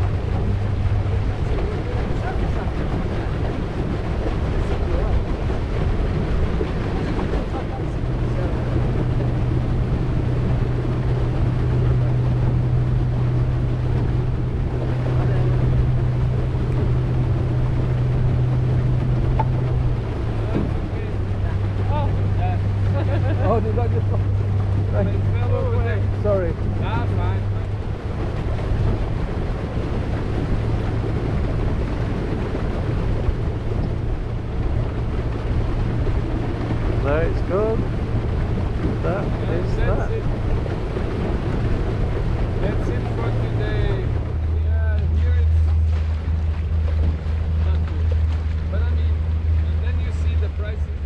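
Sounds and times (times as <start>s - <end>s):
wind noise: 0.0s - 44.6s
boat engine droning: 0.0s - 51.0s
water wash: 0.0s - 51.0s.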